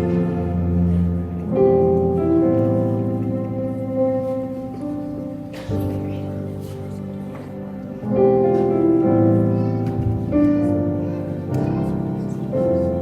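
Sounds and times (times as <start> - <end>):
slow sustained chords music: 0.0 - 13.0.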